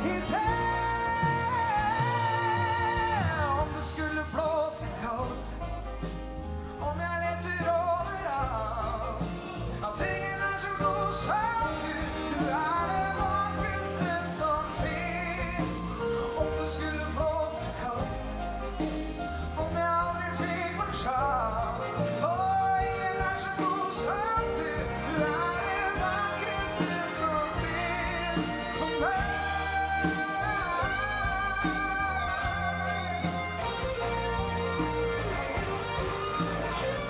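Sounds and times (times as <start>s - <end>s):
man singing with vibrato: 0.0s - 5.8s, 6.8s - 18.4s, 19.4s - 34.5s
big band music: 0.0s - 37.0s.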